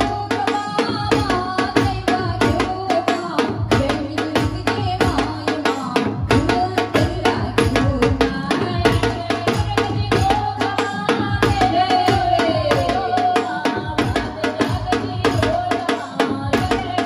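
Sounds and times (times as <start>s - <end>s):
drum beat: 0.0s - 17.0s.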